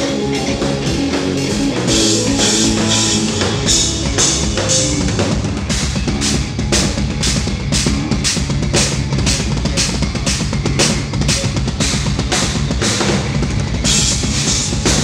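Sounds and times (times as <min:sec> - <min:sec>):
drum kit: 0:00.0 - 0:15.0
heavy electric guitars: 0:00.0 - 0:15.0.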